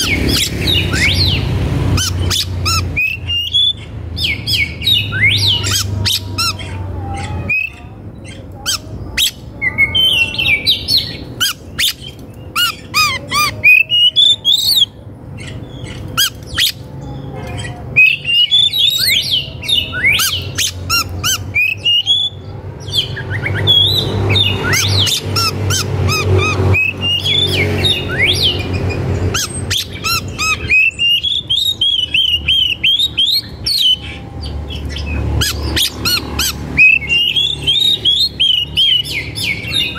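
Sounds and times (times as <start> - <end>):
bird chirping and squawking: 0.0 - 39.9.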